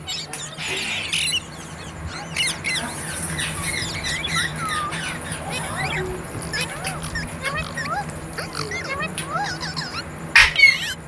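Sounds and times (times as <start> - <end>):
parrot squawking and chirping: 0.0 - 11.0
steady low hum: 0.0 - 11.0.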